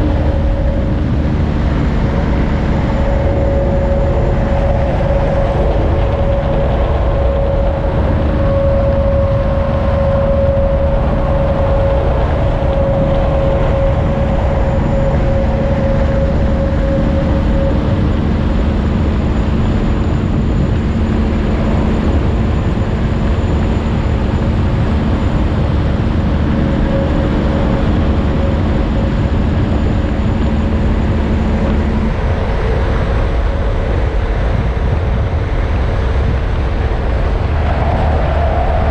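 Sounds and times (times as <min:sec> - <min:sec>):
vehicle road noise: 0:00.0 - 0:38.9.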